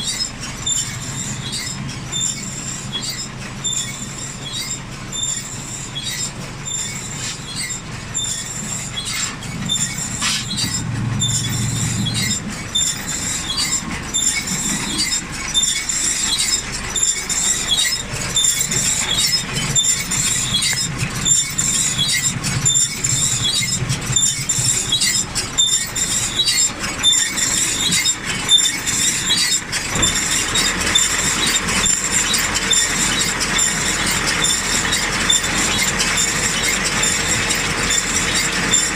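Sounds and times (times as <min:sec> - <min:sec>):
baler metallic clatter: 0:00.0 - 0:38.9
high-pitched squeal: 0:00.0 - 0:38.9
tractor low hum: 0:00.0 - 0:38.9.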